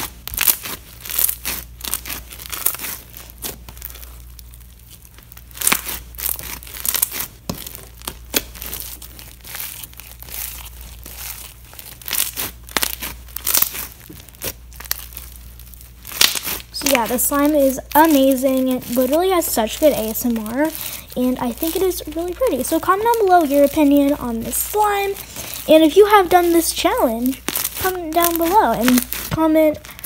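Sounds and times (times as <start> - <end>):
foam slime crackling and popping: 0.0 - 30.0.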